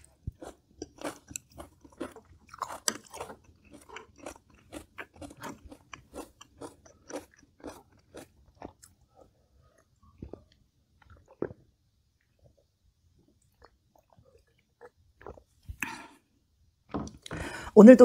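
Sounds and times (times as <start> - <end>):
person chewing crisp food: 0.0 - 16.2.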